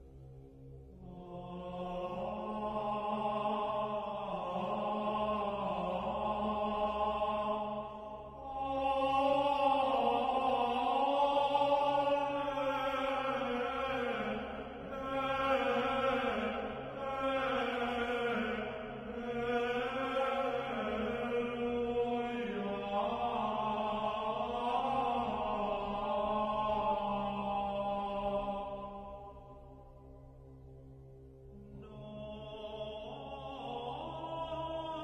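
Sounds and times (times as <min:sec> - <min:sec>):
slow chant-like singing: 0:00.0 - 0:35.0
steady low drone: 0:00.0 - 0:35.0.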